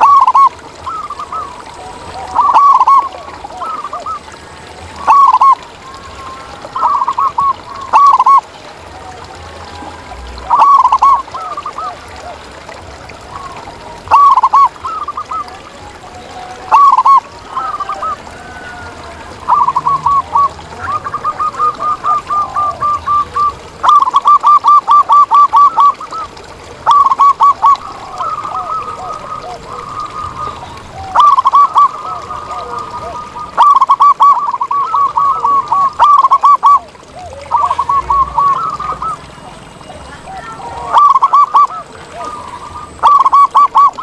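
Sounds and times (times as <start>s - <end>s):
doves cooing: 0.0s - 44.0s.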